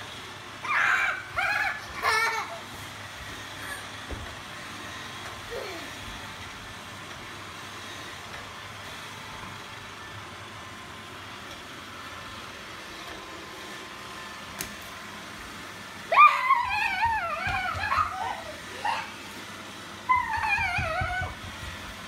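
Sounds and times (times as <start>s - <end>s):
robot vacuum whirring: 0.0s - 22.0s.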